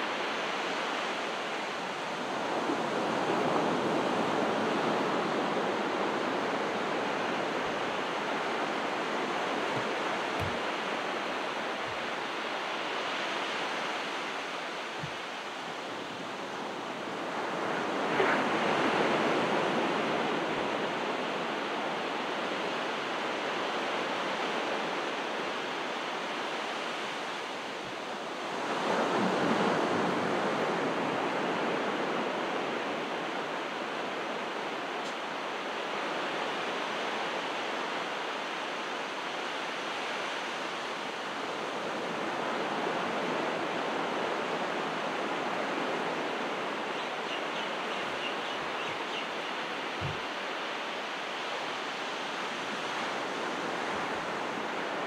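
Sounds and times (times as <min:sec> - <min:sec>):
small waves breaking on shore: 0:00.0 - 0:55.0.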